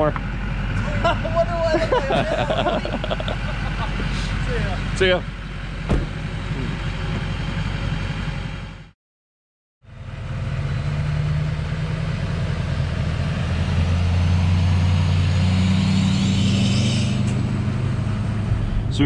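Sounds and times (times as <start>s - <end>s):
truck engine hum passing: 0.2s - 8.9s, 9.9s - 19.0s.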